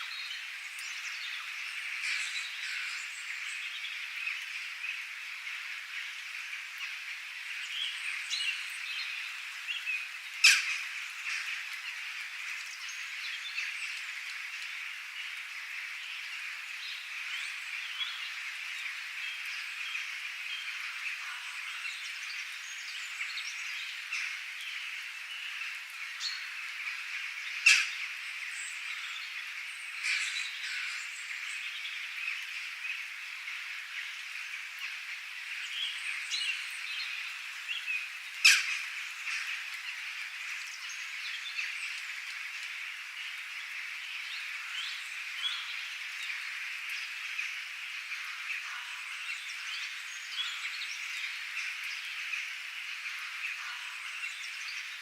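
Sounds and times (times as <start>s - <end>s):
birds chirping: 0.0s - 55.0s
frogs calling: 0.0s - 55.0s.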